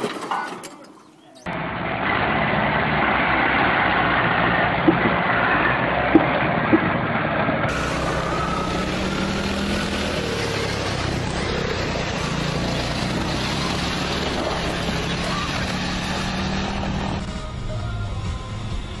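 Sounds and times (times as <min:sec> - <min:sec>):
tractor engine running: 0:00.0 - 0:17.7.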